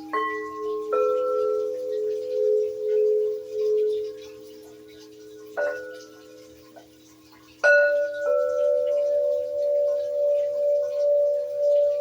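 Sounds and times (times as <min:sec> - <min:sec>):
metal singing bowl ringing: 0:00.0 - 0:06.8, 0:07.5 - 0:12.0.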